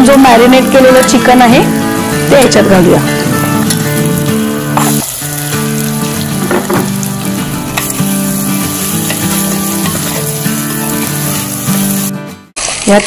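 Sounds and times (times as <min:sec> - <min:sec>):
background music: 0:00.0 - 0:12.5
chicken sizzling in hot oil: 0:00.0 - 0:13.0.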